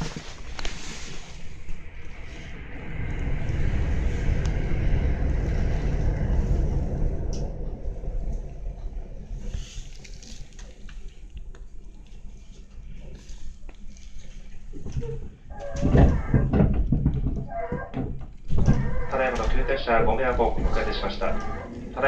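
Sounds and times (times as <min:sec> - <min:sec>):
train passing: 0:00.0 - 0:14.7, 0:18.9 - 0:22.0
train rumbling on rails: 0:00.0 - 0:22.0.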